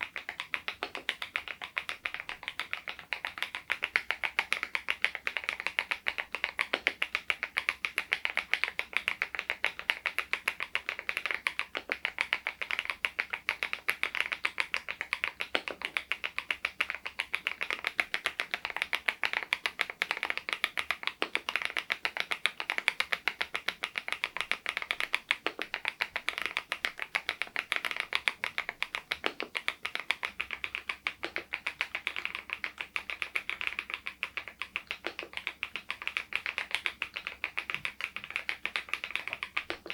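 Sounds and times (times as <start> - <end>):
keyboard typing clacks: 0.0 - 39.9.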